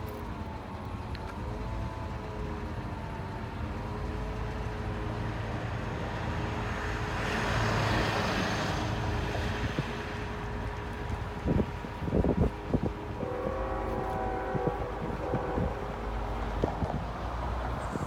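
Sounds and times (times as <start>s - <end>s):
truck engine hum with whine: 0.0s - 18.0s.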